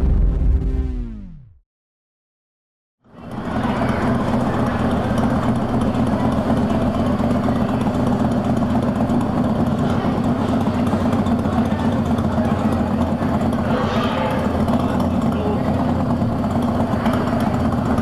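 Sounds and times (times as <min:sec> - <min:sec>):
motorbike engine idling: 0:03.1 - 0:18.0.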